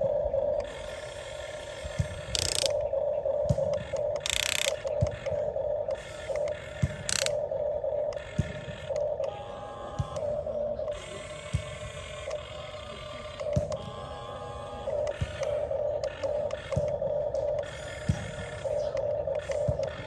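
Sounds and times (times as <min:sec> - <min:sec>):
electric gear motors whirring: 0:00.0 - 0:20.0
gears clicking and rattling: 0:00.0 - 0:20.0.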